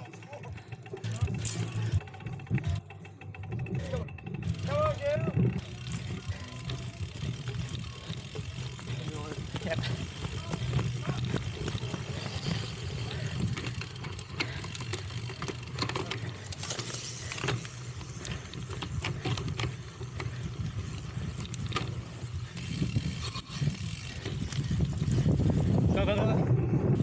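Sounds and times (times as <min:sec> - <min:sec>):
bike rattling clicks and knocks: 0:00.0 - 0:27.0
bike tyres rumbling on ground: 0:00.0 - 0:27.0.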